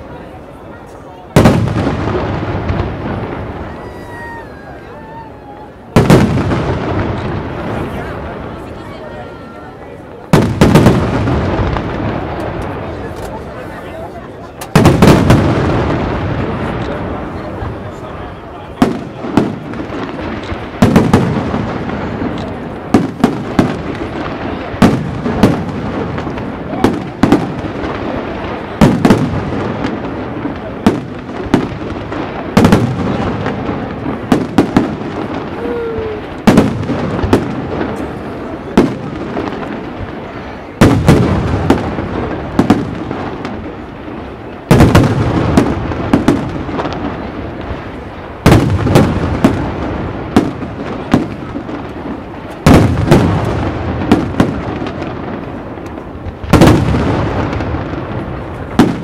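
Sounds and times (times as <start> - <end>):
firework crackling: 0.0 - 59.0.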